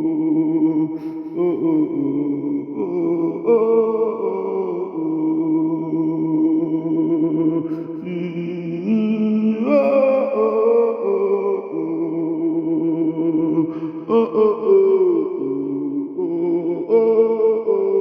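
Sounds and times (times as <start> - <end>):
slow chant-like music: 0.0 - 18.0.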